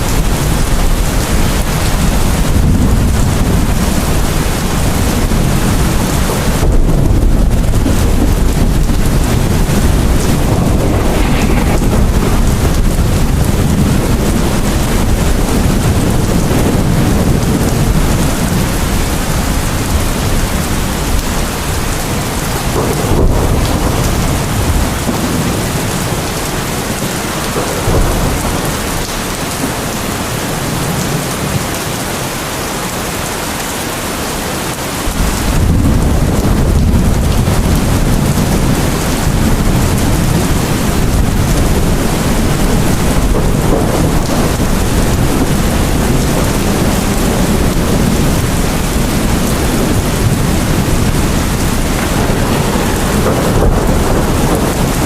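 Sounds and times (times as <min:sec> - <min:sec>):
thunder rumbling: 0:00.0 - 0:31.7, 0:35.0 - 0:55.0
heavy rain falling: 0:00.0 - 0:55.0.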